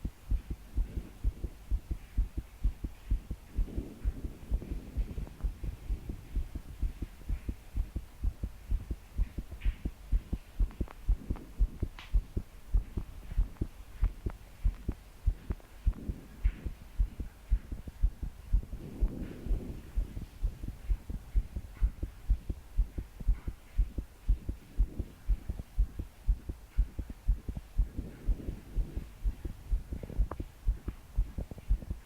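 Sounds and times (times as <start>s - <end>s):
fast pounding heartbeat: 0.0s - 32.0s
soft breaths: 0.0s - 32.0s.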